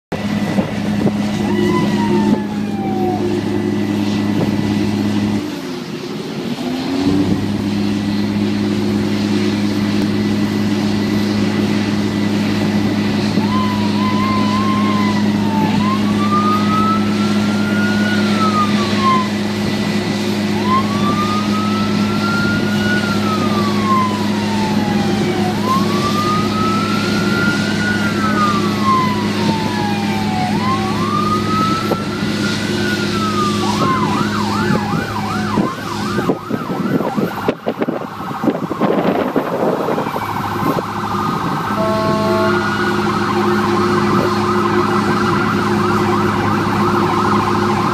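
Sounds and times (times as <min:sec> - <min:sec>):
fire truck siren wailing: 0:00.1 - 0:47.9
low engine hum: 0:00.1 - 0:47.9.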